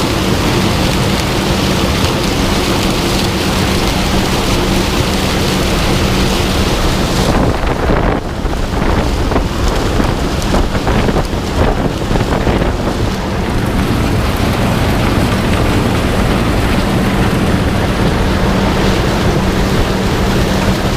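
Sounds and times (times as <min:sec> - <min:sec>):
combine harvester humming: 0:00.0 - 0:20.9
wind noise on microphone: 0:00.0 - 0:20.9.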